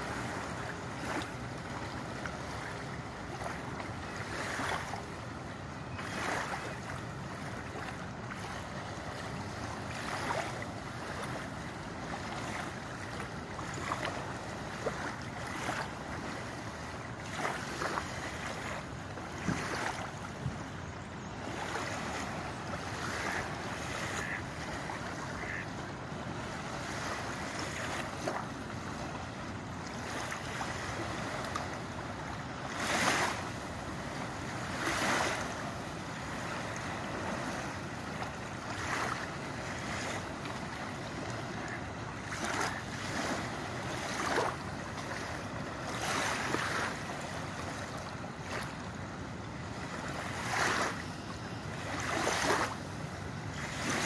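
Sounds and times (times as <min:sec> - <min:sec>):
waves lapping on gravel shore: 0:00.0 - 0:20.5, 0:21.4 - 0:54.0.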